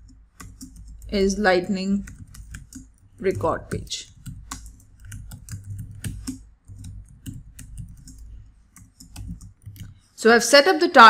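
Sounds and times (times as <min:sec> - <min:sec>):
typing on computer keyboard: 0:00.0 - 0:10.0.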